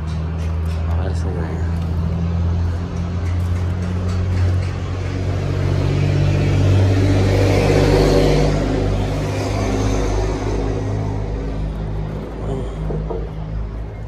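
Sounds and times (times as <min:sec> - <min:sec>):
traffic passing: 0:00.0 - 0:14.0
vehicle engine running: 0:00.0 - 0:14.0.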